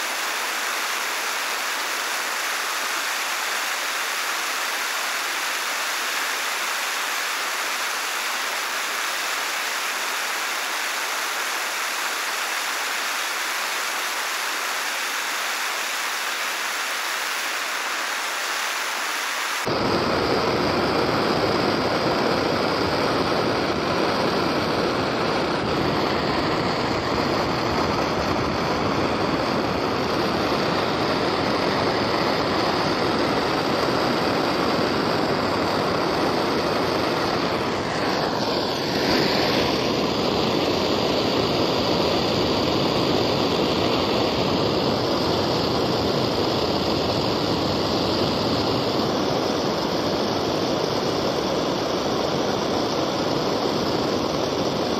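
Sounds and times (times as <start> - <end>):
gas torch flame hissing: 0.0 - 54.9.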